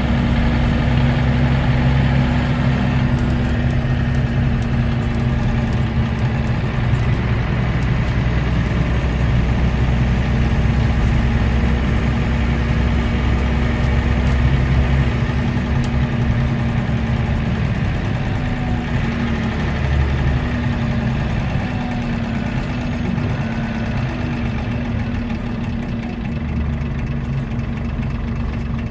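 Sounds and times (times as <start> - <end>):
bus diesel engine running: 0.0 - 28.9.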